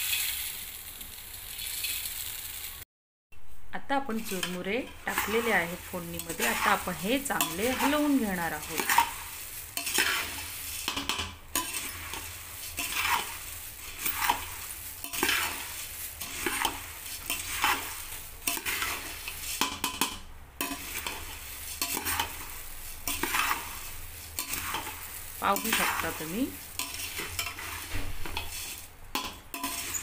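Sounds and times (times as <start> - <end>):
metal spoon stirring puffed rice: 0.0 - 2.8, 4.1 - 30.0.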